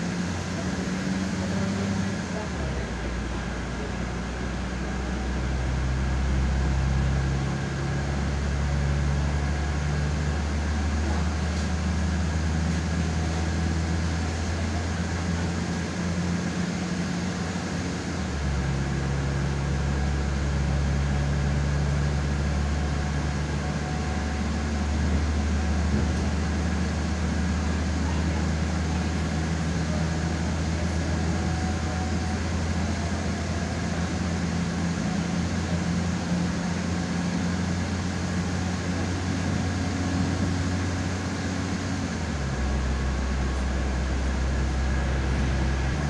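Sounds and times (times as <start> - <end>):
rail noise: 0.0 - 46.0
train engine drone: 0.0 - 46.0.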